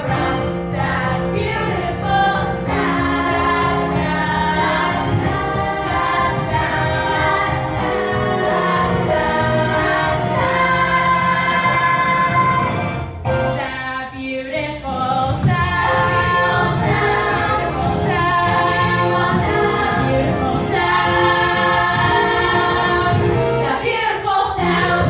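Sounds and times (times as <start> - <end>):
small choir singing in harmony: 0.0 - 25.0.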